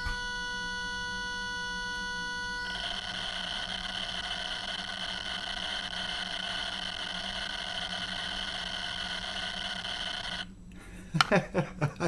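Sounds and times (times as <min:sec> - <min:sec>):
speaker hissing static noise: 0:00.0 - 0:10.5.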